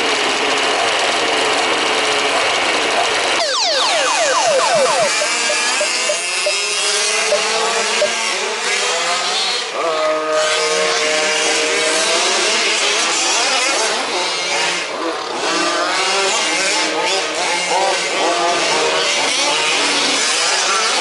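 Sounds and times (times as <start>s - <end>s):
rc car engines racing: 0.0s - 21.0s.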